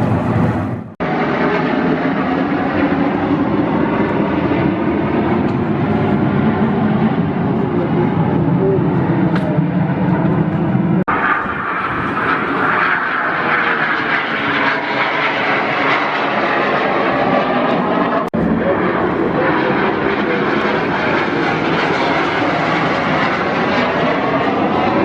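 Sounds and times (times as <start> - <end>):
airplane flying past: 0.0 - 25.0.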